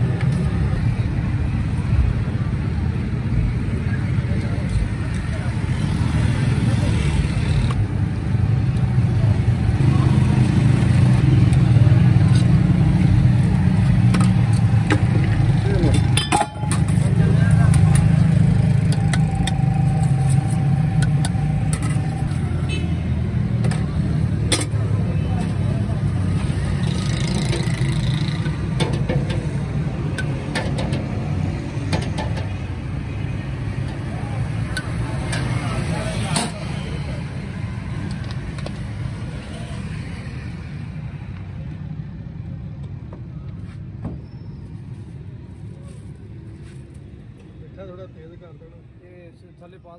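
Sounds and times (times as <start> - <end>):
engine humming steadily: 0.0 - 44.0
street traffic rumble: 0.0 - 49.9.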